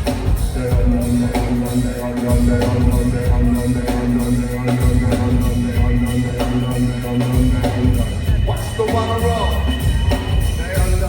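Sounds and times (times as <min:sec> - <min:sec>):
drum kit beat: 0:00.0 - 0:11.0
heavy bass: 0:00.0 - 0:11.0
live band playing: 0:00.0 - 0:11.0.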